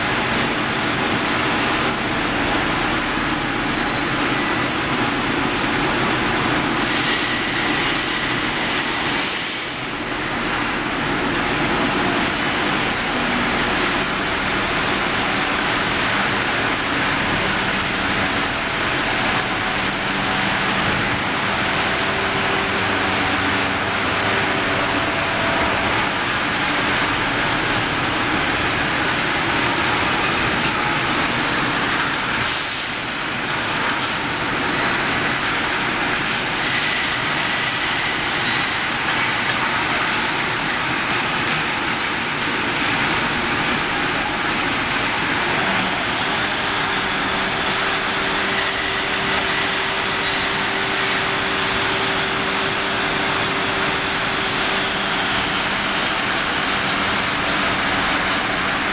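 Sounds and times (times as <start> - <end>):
rolling mill machinery noise: 0.0 - 58.9.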